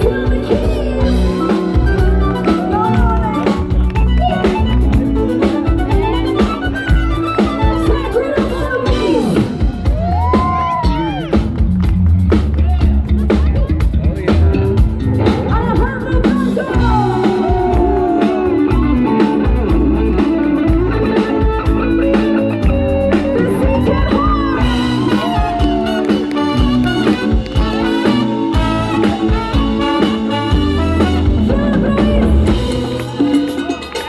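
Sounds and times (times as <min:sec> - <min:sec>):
latin band playing: 0:00.0 - 0:34.0.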